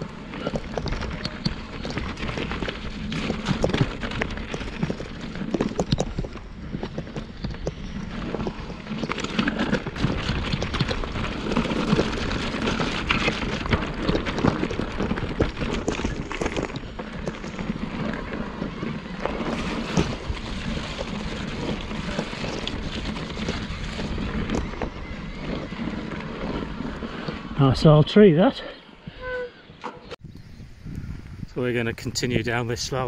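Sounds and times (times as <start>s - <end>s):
tyres crunching on trail: 0.0s - 30.2s
bike rattling: 0.0s - 33.0s.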